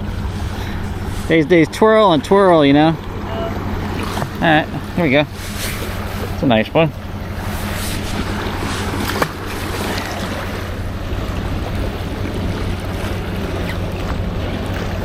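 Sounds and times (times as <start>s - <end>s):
sea wash at shoreline: 0.0s - 15.0s.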